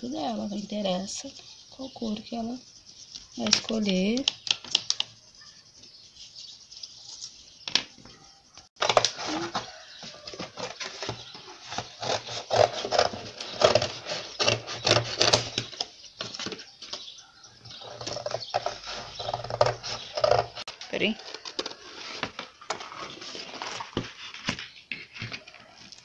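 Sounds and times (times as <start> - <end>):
cardboard rustling and scraping: 0.3 - 26.0.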